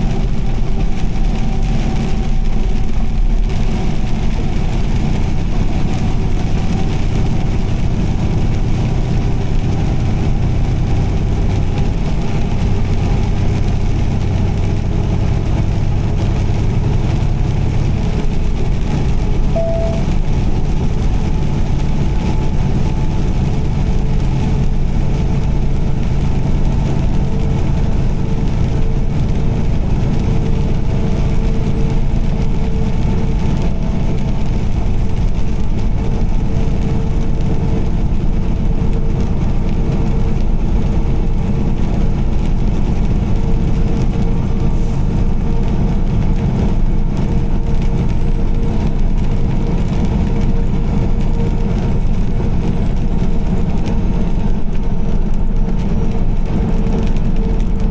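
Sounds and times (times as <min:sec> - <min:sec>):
car driving at highway speed: 0:00.0 - 0:57.9.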